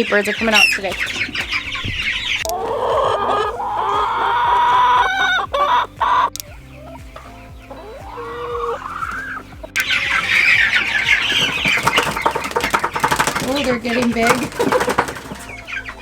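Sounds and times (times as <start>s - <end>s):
chickens peeping and clucking: 0.0s - 16.0s
chickens' rising calls: 0.0s - 16.0s.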